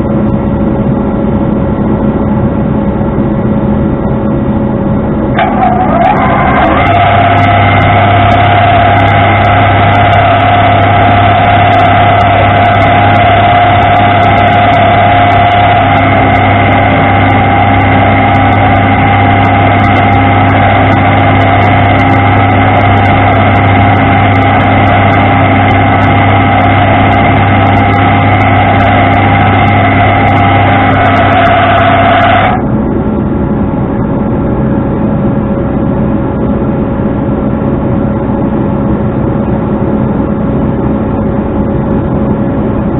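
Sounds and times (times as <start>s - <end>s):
truck engine running: 0.0s - 42.9s.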